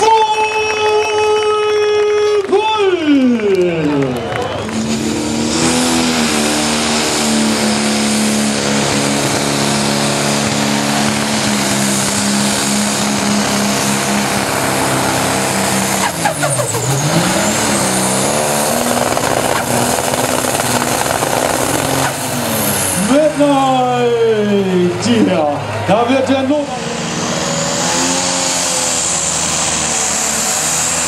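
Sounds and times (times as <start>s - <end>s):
tractor diesel engine at high revs: 3.1s - 31.0s.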